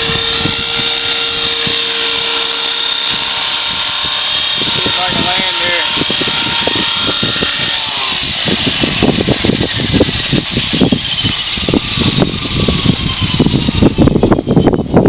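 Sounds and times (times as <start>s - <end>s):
helicopter motor and rotor whine: 0.0s - 15.0s
wind buffeting microphone: 0.0s - 15.0s.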